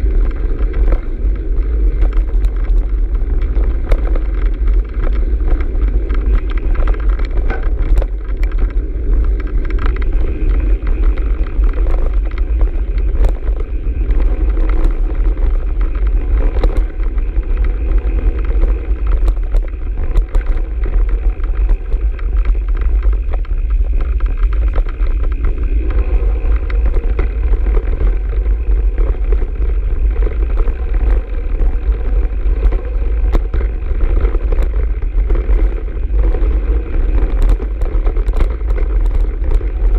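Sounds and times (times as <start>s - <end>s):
bike rattles and clicks: 0.0s - 39.9s
wind rumble on microphone: 0.0s - 39.9s.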